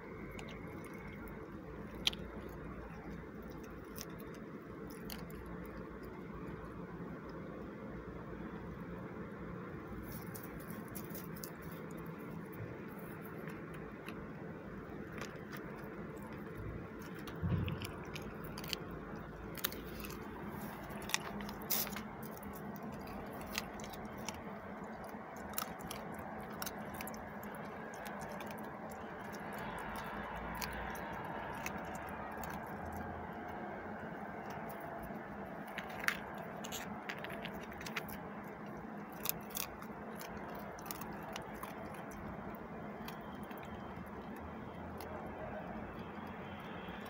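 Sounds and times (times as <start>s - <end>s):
dog chewing and crunching: 0.0s - 7.3s, 10.0s - 47.0s.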